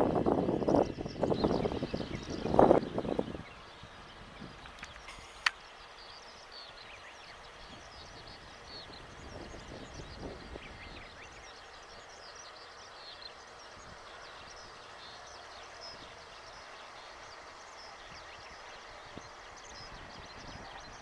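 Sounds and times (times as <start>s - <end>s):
small birds chirping: 0.4s - 21.0s.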